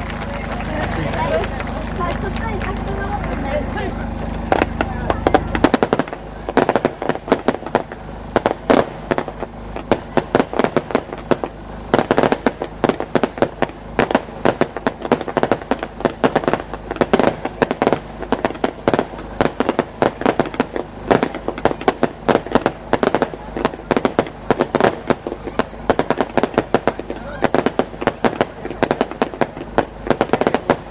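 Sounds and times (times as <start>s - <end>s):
fireworks bangs and crackling: 0.0s - 30.9s.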